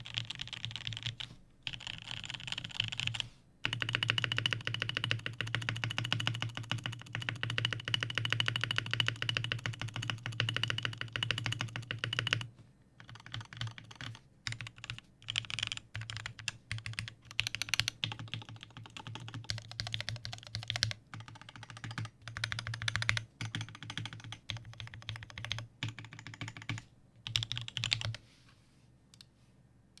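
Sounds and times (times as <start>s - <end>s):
mechanical keyboard typing: 0.0s - 28.2s.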